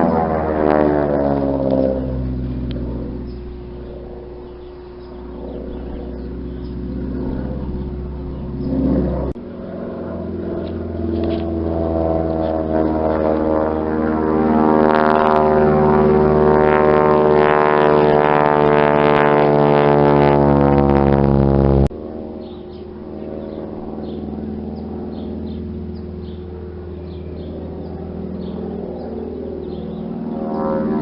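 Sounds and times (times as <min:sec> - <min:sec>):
distant engine hum: 0:00.0 - 0:31.0
propeller airplane engine droning: 0:00.0 - 0:31.0.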